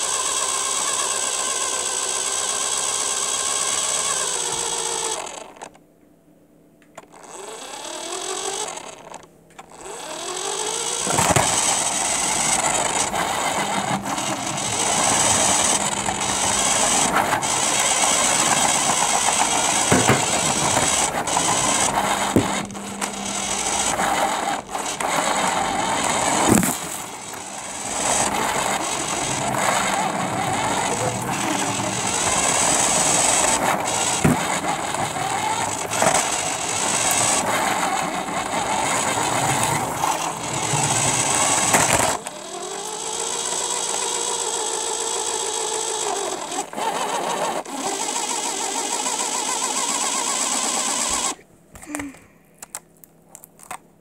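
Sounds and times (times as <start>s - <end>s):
model plane motor buzzing: 0.0s - 5.8s, 7.0s - 52.0s.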